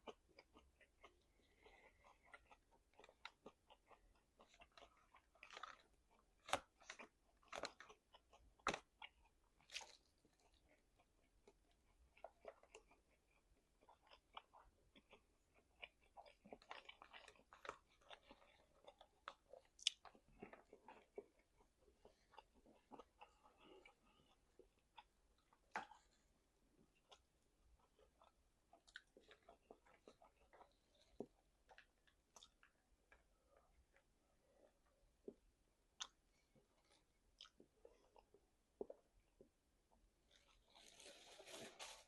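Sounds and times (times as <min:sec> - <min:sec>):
person chewing meat: 0:00.0 - 0:39.6.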